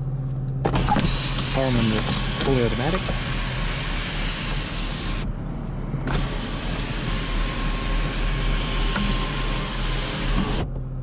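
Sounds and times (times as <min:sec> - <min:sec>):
car engine idling: 0:00.0 - 0:11.0
electric sunroof motor running: 0:00.7 - 0:05.3, 0:06.1 - 0:10.7.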